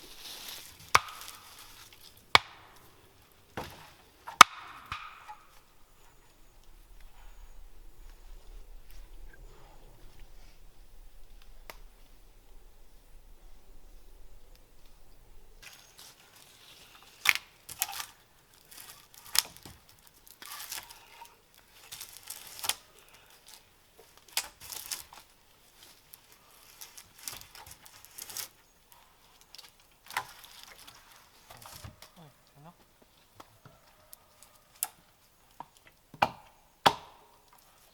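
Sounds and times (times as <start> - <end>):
sharp cracks of twigs: 0.0 - 32.2
dry leaves and twigs crunching: 0.0 - 35.0.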